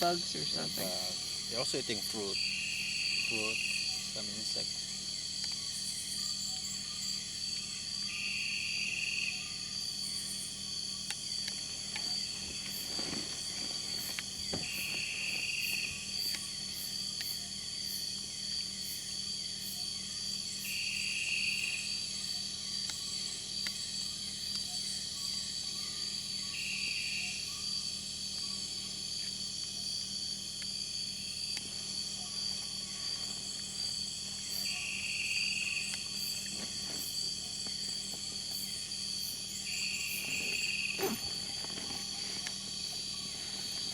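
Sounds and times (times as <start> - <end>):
high-pitched insect drone: 0.0 - 43.9
short buzzing insect call: 4.9 - 18.1, 20.5 - 43.9.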